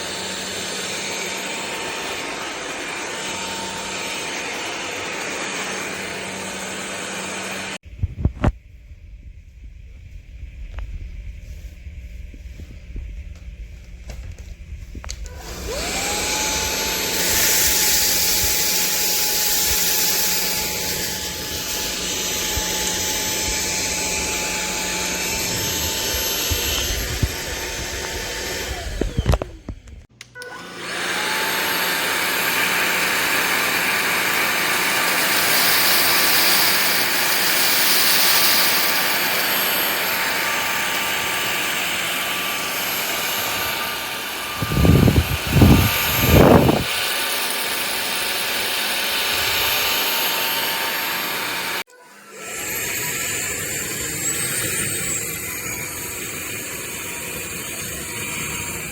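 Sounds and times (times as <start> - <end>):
stick vacuum motor whining: 0.0 - 8.5, 13.8 - 58.9.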